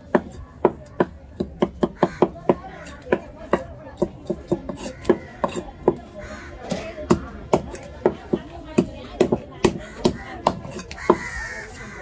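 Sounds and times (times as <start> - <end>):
knife chopping fish on wood: 0.0 - 11.6.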